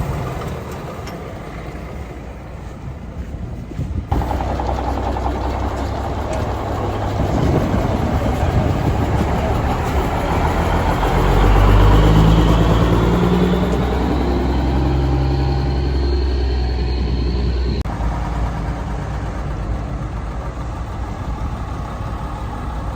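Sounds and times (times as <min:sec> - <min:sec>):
truck engine running: 0:00.0 - 0:22.9.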